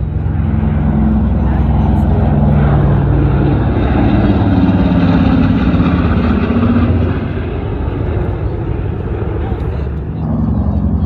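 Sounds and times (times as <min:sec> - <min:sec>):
propeller bomber engines droning: 0:00.0 - 0:11.0.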